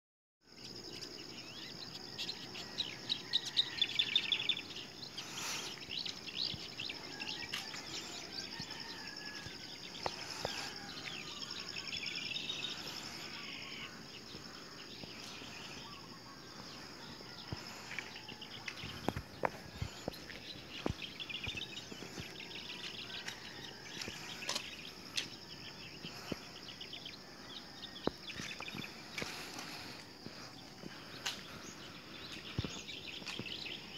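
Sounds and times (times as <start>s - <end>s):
birds chirping: 0.5s - 33.9s
high-pitched insect drone: 0.5s - 33.9s.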